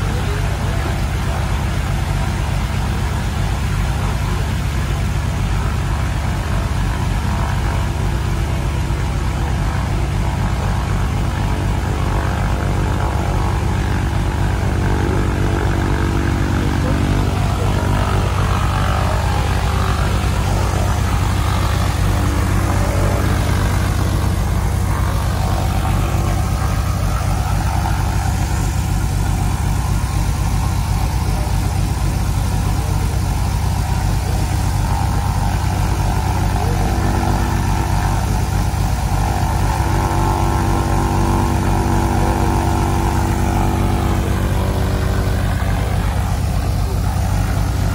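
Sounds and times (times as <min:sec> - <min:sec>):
piston aircraft engine idling: 0:00.0 - 0:47.9
small gasoline pump engine running: 0:00.0 - 0:47.9.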